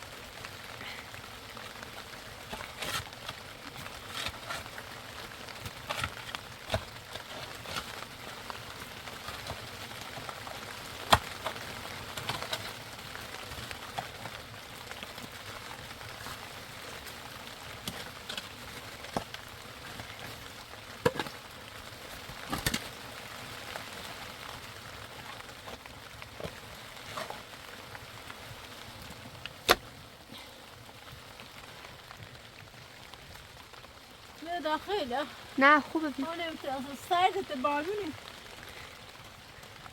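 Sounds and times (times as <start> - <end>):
hard rain falling: 0.0 - 39.9.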